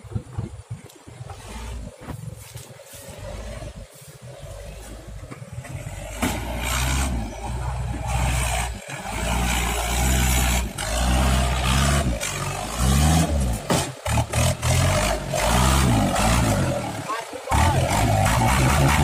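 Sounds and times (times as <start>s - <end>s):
truck engine revving hard: 3.0s - 19.0s.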